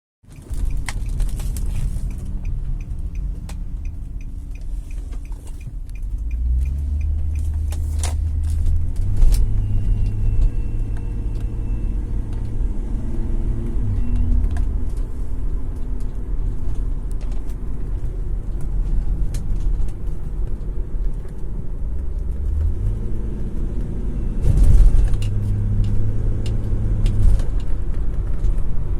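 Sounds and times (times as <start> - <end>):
car engine rumble: 0.2 - 28.9.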